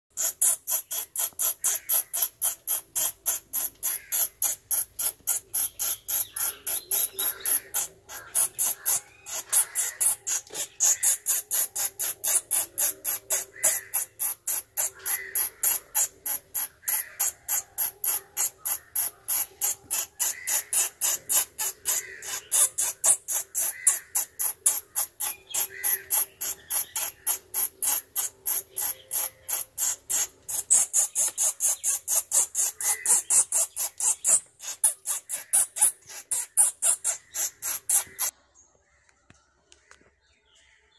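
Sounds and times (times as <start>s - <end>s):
bat squeaking: 0.2s - 38.3s.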